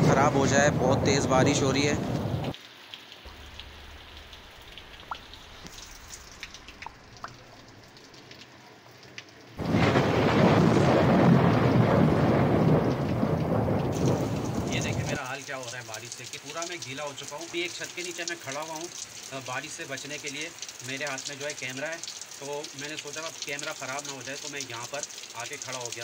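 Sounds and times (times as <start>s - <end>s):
heavy rain: 0.0s - 26.0s
rain drop ticks: 1.0s - 26.0s.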